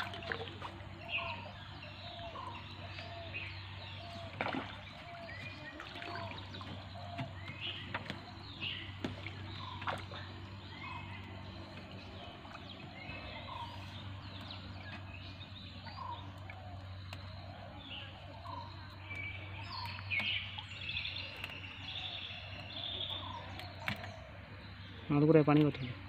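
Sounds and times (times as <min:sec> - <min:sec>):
birds chirping and trilling: 0:00.0 - 0:26.0
low steady hum: 0:00.0 - 0:26.0.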